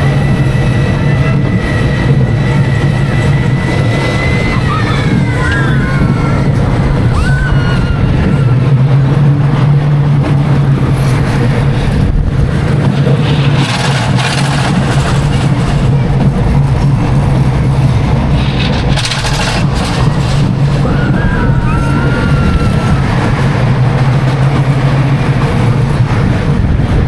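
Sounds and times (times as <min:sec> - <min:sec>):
high wheel squeal: 0:00.0 - 0:10.1, 0:12.8 - 0:26.7
roller coaster rumbling on track: 0:00.0 - 0:27.0.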